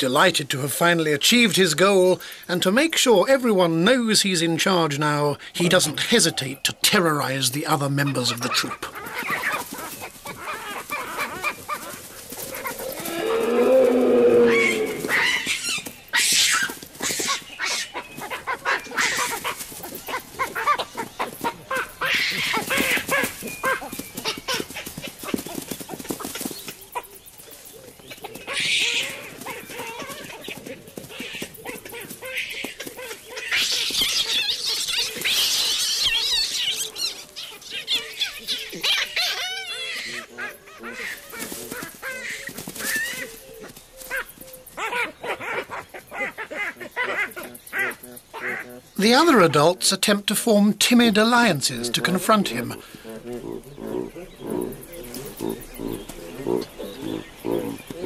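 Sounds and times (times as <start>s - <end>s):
baboons screaming and barking: 8.0s - 27.1s, 28.1s - 49.9s, 50.8s - 58.0s.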